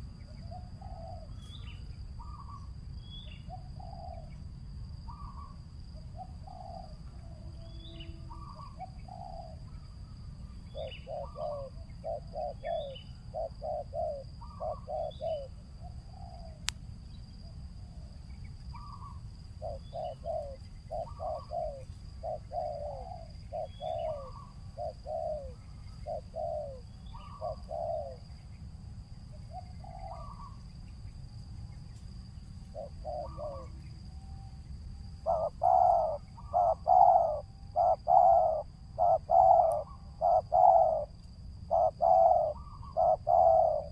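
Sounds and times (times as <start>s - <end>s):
dove cooing: 0.0s - 2.7s, 3.3s - 4.4s, 5.0s - 16.6s, 18.7s - 28.4s, 29.3s - 30.6s, 32.7s - 33.9s, 35.1s - 43.9s
insects high whine: 0.0s - 43.9s.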